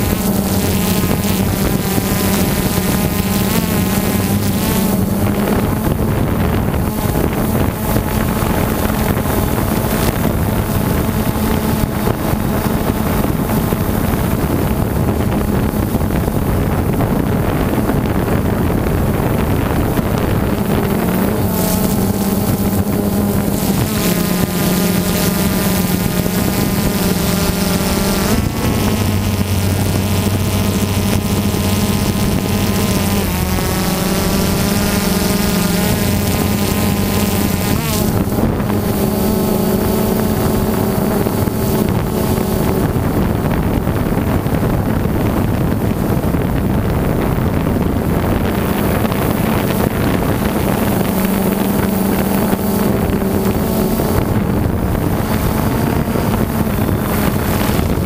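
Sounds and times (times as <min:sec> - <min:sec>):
drone propellers buzzing: 0:00.0 - 0:58.0
wind noise on microphone: 0:00.0 - 0:58.0.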